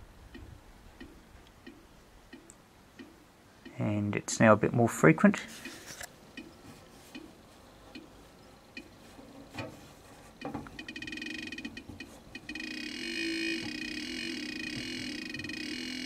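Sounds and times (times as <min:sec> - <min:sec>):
continuous buzzy tone: 0:00.0 - 0:16.0.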